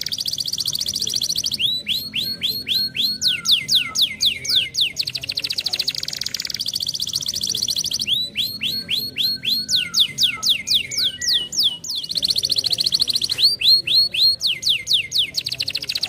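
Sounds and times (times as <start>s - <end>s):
canary singing trills and whistles: 0.0s - 16.0s.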